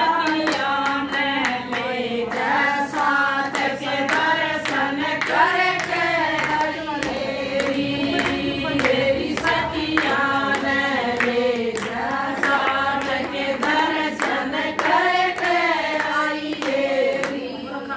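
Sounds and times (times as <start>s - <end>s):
hands clapping on a beat: 0.0s - 17.5s
women singing devotional song: 0.0s - 17.9s.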